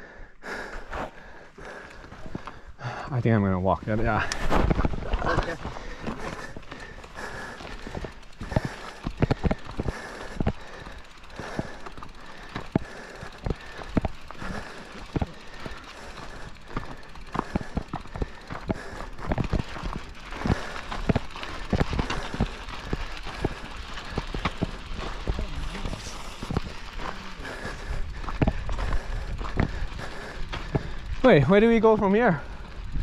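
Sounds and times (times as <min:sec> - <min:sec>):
tyres crunching on gravel: 0:03.2 - 0:33.0
bike parts clicking and knocking: 0:04.2 - 0:31.2.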